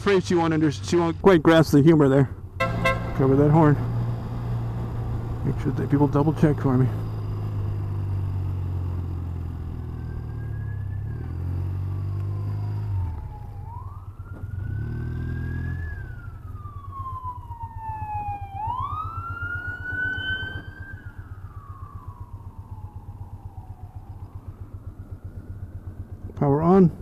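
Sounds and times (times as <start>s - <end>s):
motorcycle engine running: 0.0s - 27.0s
wailing siren: 2.6s - 26.4s.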